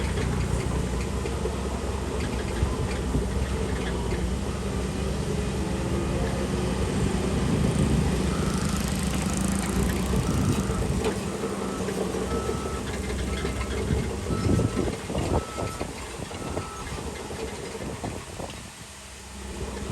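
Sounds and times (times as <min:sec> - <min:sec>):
bulldozer diesel engine: 0:00.0 - 0:19.9.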